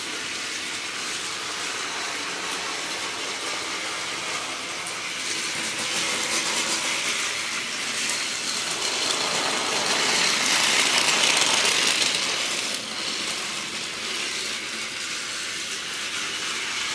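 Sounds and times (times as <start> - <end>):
toy train motor whirring: 0.0 - 16.9
toy train wheels clicking and rattling: 0.0 - 16.9.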